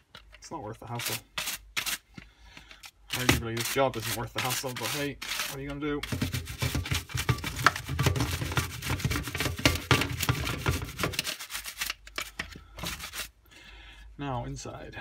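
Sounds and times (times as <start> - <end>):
scratchy rubbing of plastic parts: 0.0 - 13.4.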